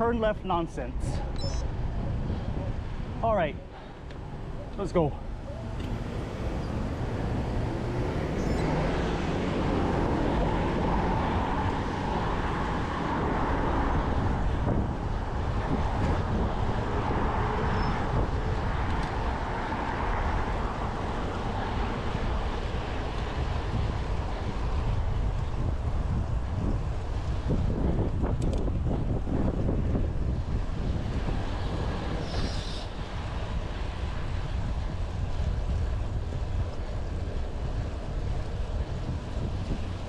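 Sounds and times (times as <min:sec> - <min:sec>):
road and traffic rumble: 0:00.0 - 0:40.0
wind on microphone: 0:01.0 - 0:40.0.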